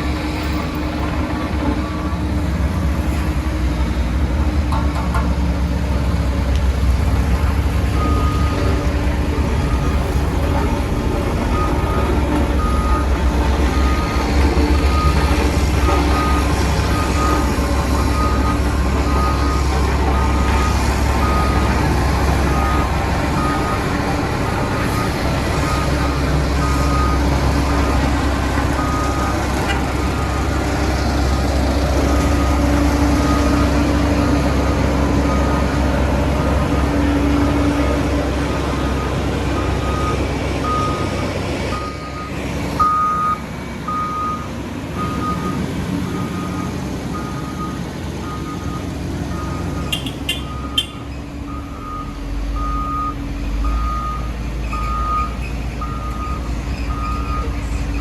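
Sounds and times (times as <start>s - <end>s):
diesel machinery engine rumble: 0.0s - 58.0s
reversing alarm beeping: 7.8s - 35.9s, 36.6s - 57.6s.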